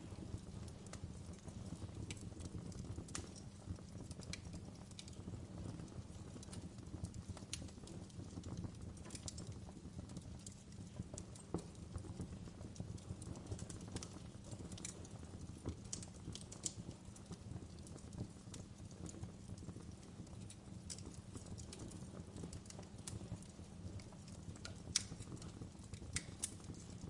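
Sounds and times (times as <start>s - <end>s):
wood campfire crackling: 0.0s - 27.0s.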